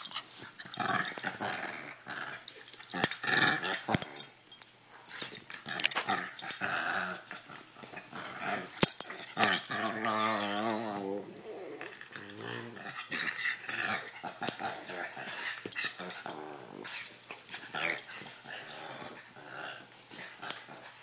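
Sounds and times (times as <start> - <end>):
dogs growling and snarling: 0.0 - 21.0.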